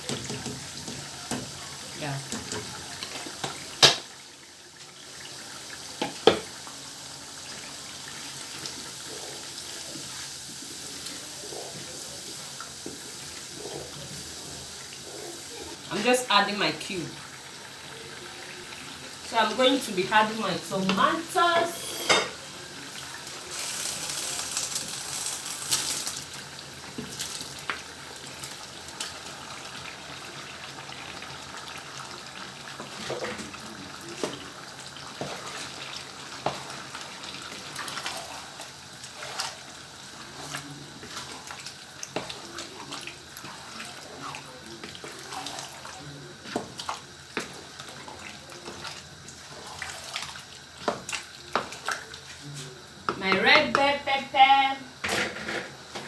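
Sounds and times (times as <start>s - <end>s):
tomatoes sizzling in hot oil: 0.0s - 55.0s.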